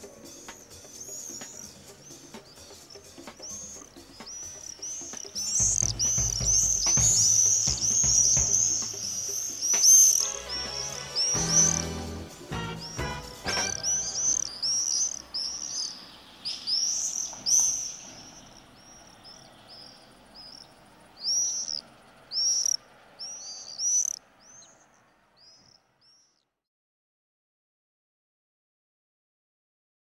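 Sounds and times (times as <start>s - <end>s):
swifts screaming calls: 0.0s - 26.4s.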